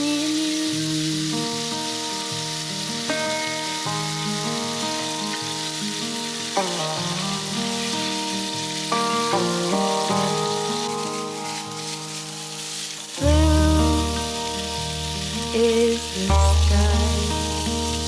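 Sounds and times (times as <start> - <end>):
food sizzling in a pan: 0.0 - 18.0
instrumental background music: 1.9 - 18.0.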